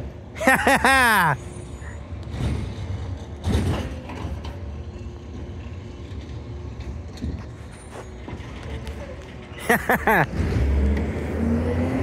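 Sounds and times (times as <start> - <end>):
truck engine humming: 0.0 - 10.4.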